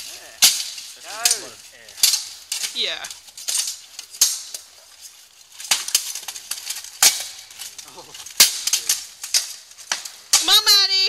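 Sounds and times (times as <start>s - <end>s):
swords and armour clanging: 0.0s - 10.9s.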